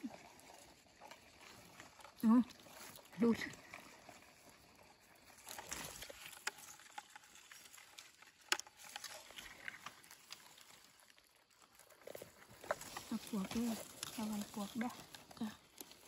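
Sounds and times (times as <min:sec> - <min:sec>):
rustling and scraping in leaves: 0:00.0 - 0:16.0.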